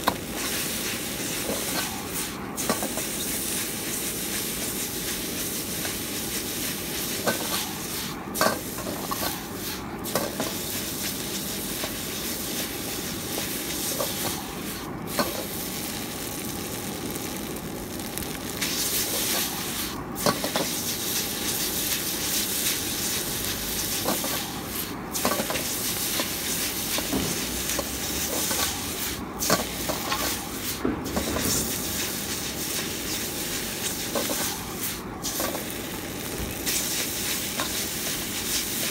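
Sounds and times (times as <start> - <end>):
noodles sizzling in wok: 0.0 - 38.9.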